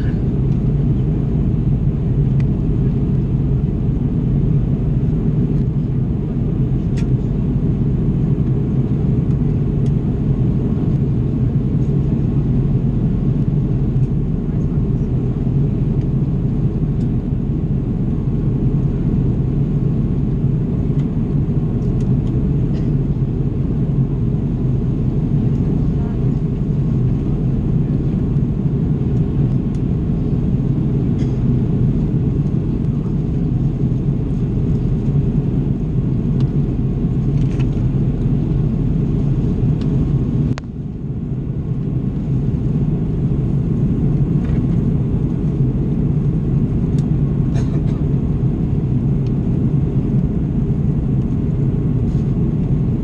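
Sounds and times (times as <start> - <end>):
jet engine rumble: 0.0 - 53.0.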